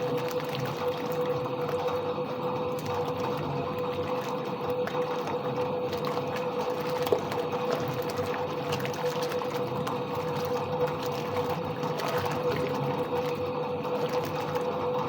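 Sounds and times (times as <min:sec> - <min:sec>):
washing machine churning: 0:00.0 - 0:15.0.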